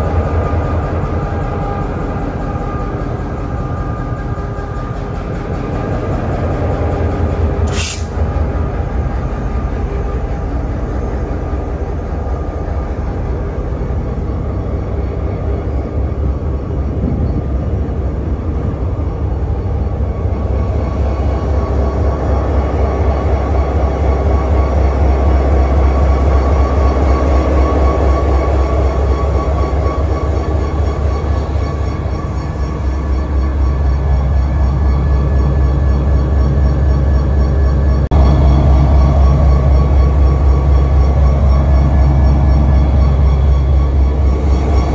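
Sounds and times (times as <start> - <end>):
locomotive engine rumbling: 0.0 - 44.9.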